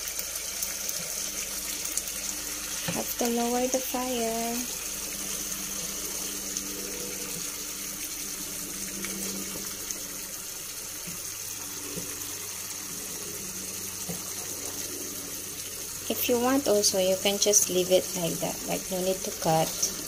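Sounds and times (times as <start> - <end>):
sauce sizzling in frying pan: 0.0 - 20.0.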